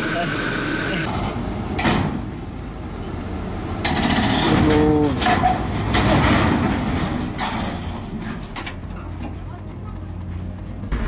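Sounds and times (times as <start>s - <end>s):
excavator diesel engine under load: 0.0s - 11.0s
steel tracks clanking and scraping: 1.0s - 2.4s, 3.0s - 11.0s.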